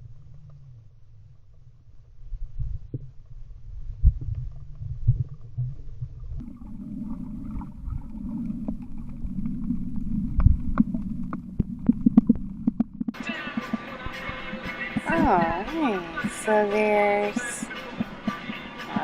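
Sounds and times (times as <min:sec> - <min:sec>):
underwater rumble and sloshing: 0:00.0 - 0:15.6
low steady hum: 0:00.0 - 0:18.2.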